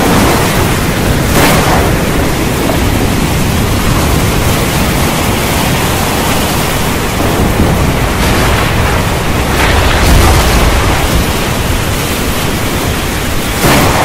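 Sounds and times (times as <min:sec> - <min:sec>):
heavy rain pouring: 0:00.0 - 0:14.0
thunder rumbling: 0:00.0 - 0:14.0.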